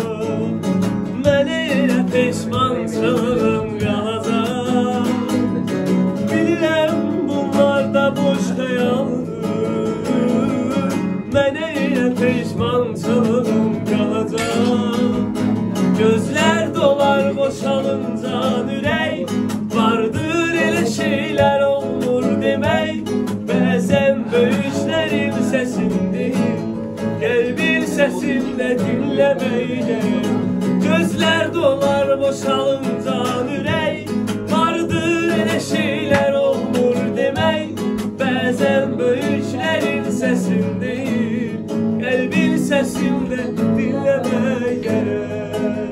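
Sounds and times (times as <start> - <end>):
classical guitar strumming: 0.0 - 45.9
man singing: 0.0 - 45.9.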